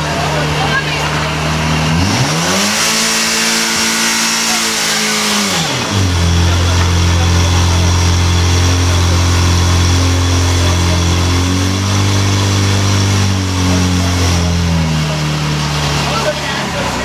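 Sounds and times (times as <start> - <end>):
pump engine running at high revs: 0.0 - 17.0.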